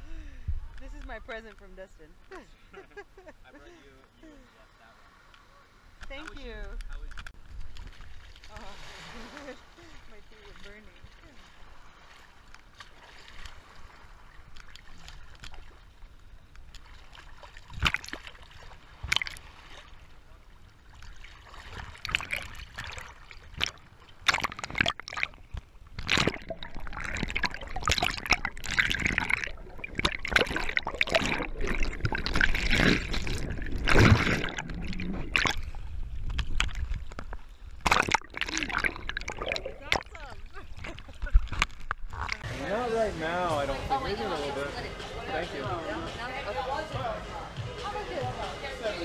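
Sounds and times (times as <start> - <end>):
water sloshing and splashing: 5.9 - 45.3.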